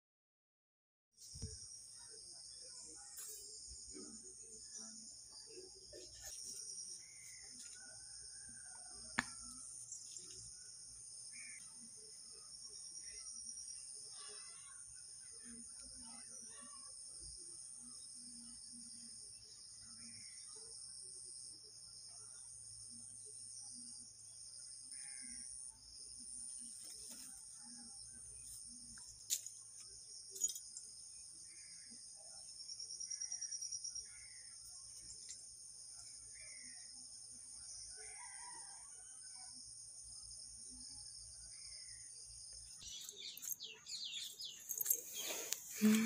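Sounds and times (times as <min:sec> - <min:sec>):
insects chirping chorus: 0:01.2 - 0:46.0.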